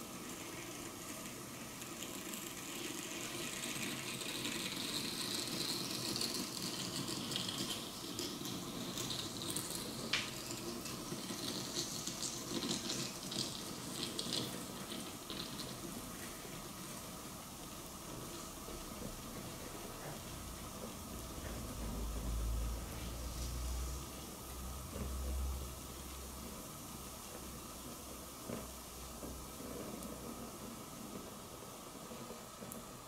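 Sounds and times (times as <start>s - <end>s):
chocolate sizzling and crackling: 0.0s - 33.0s.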